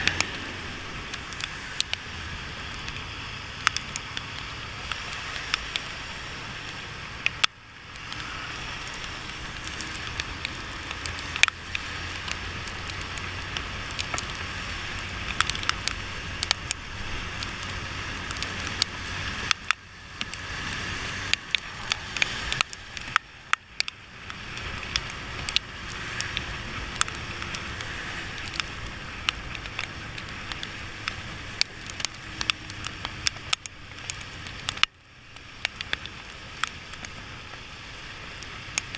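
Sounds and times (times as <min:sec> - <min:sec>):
raindrops clicking on microphone: 0:00.0 - 0:38.9
wet road noise: 0:00.0 - 0:38.9.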